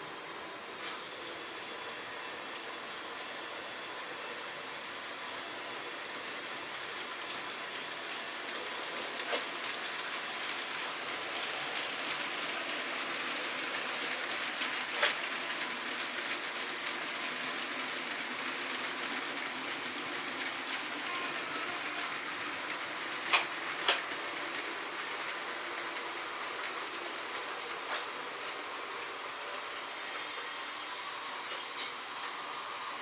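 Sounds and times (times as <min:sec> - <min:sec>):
model train motors whirring: 0:00.0 - 0:33.0.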